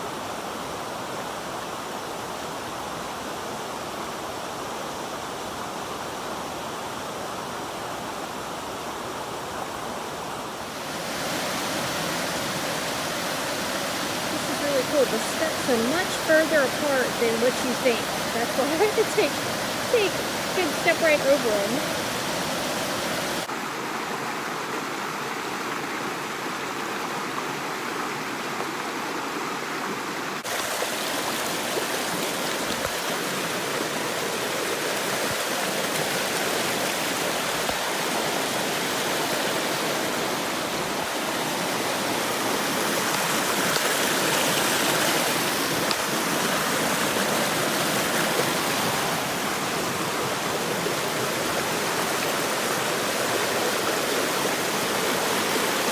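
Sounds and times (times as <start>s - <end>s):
creek water rushing over rocks: 0.0s - 55.9s.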